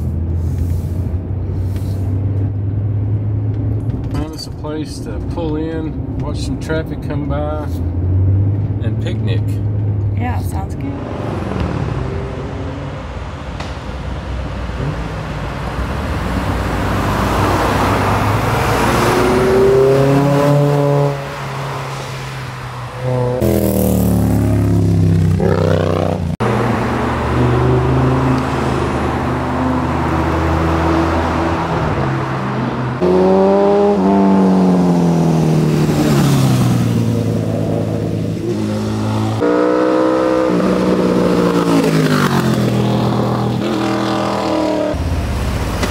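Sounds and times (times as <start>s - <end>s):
motorcycles passing: 7.4s - 45.9s.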